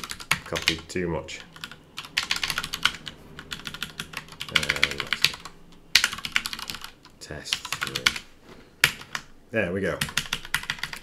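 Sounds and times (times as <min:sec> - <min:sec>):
typing on computer keyboard: 0:00.0 - 0:00.8, 0:01.4 - 0:08.2, 0:08.8 - 0:09.3, 0:10.0 - 0:11.0.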